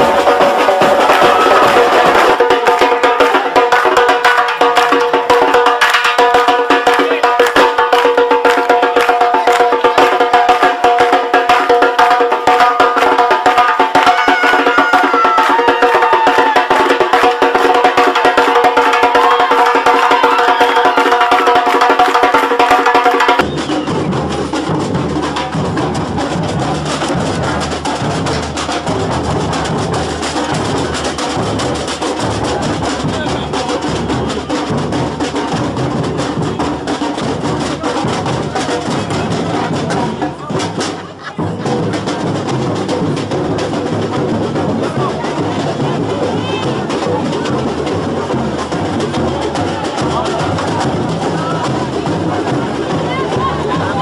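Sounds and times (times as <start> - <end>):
carnival samba music: 0.0 - 54.0
samba drum group playing: 0.0 - 54.0.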